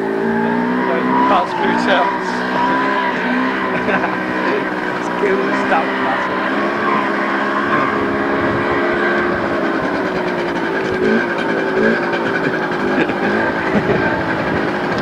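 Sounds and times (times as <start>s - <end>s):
motor scooter engine running: 0.0s - 15.0s.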